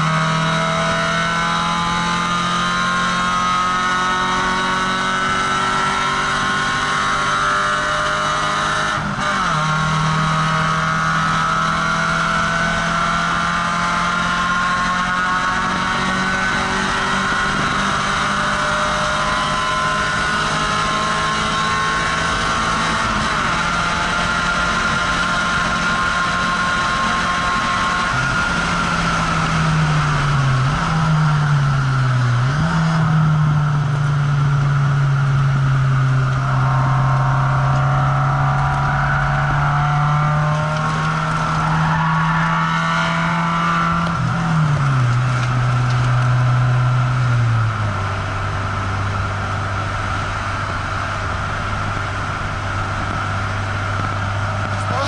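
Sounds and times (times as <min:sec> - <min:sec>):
car engine from inside cabin: 0:00.0 - 0:55.0.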